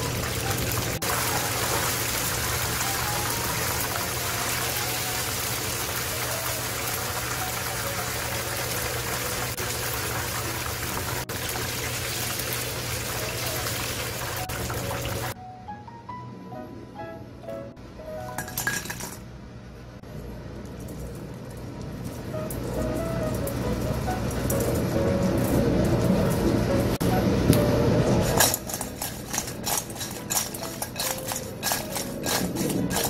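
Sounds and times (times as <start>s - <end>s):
oil sizzling while deep-frying: 0.0s - 15.4s, 21.8s - 33.0s.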